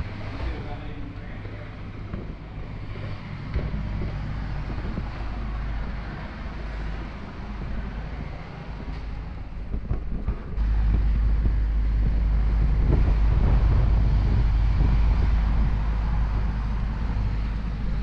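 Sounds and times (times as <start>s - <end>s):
helicopters running: 0.0s - 18.0s
wind buffeting microphone: 0.0s - 18.0s.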